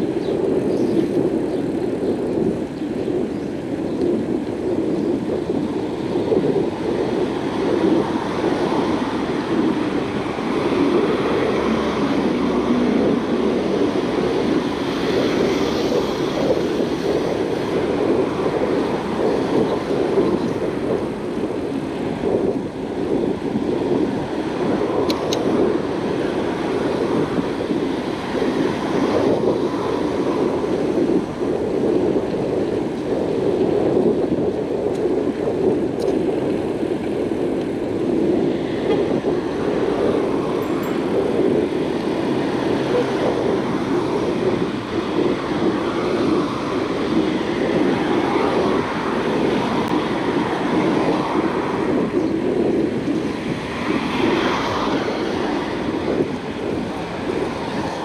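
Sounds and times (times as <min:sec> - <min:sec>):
road traffic: 0:00.0 - 0:58.0
wind noise on microphone: 0:00.0 - 0:58.0.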